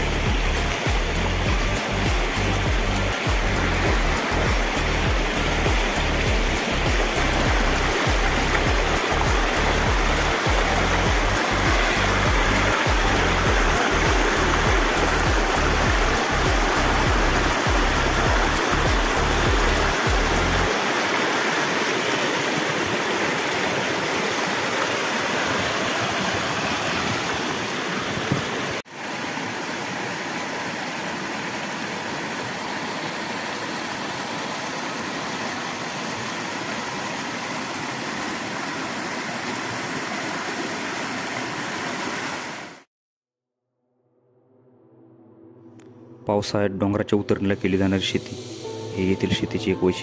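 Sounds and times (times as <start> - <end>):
water rushing: 0.0 - 42.9.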